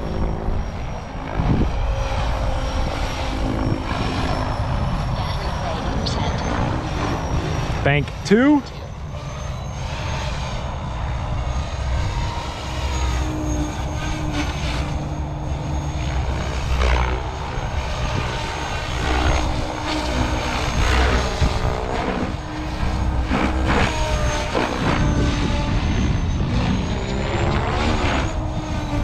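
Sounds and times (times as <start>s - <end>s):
electric motor whine: 0.0s - 29.0s
rotor blades whooshing: 0.0s - 29.0s.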